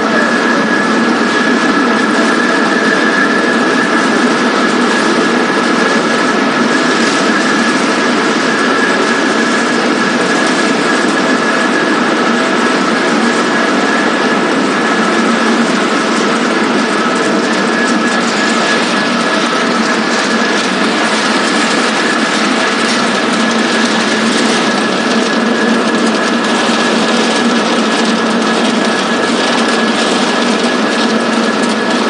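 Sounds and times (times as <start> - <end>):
pellet mill whining din: 0.0 - 32.0.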